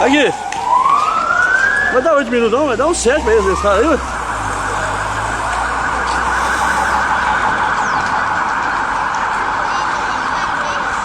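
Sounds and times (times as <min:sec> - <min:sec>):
emergency vehicle siren: 0:00.0 - 0:11.0.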